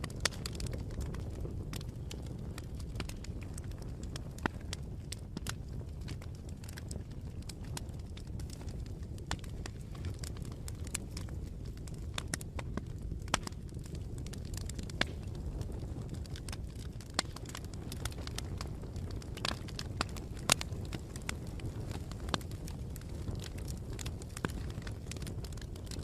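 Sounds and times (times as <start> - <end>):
sharp fire pops: 0.0 - 26.0
wood fire crackling: 0.0 - 26.0.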